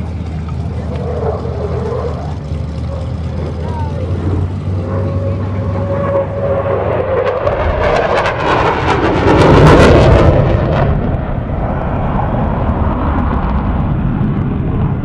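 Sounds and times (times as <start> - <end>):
jet aircraft roaring past: 0.0 - 15.0.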